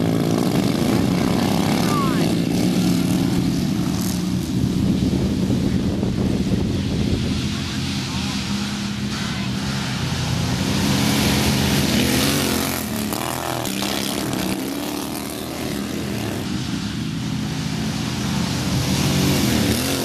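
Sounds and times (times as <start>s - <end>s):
lawn mower engine running hard: 0.0s - 20.0s.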